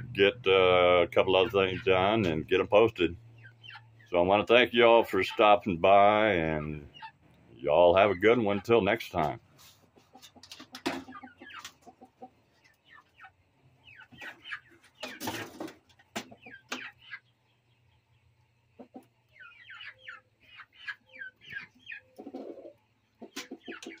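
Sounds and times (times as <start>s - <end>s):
chickens chirping and clucking: 0.0s - 24.0s.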